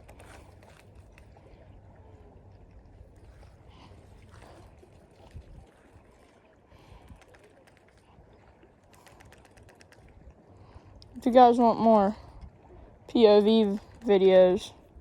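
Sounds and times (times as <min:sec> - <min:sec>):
low steady rumble: 0:00.0 - 0:07.2, 0:10.0 - 0:15.0
soft water sounds: 0:00.0 - 0:15.0.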